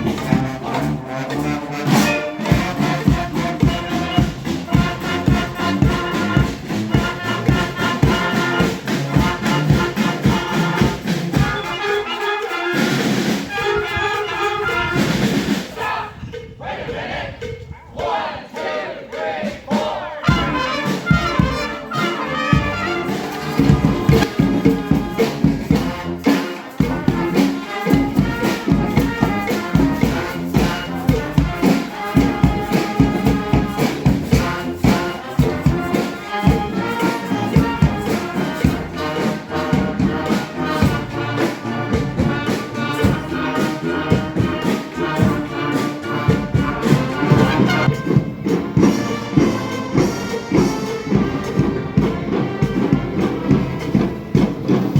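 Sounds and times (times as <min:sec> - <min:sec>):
marching band playing: 0:00.0 - 0:54.9.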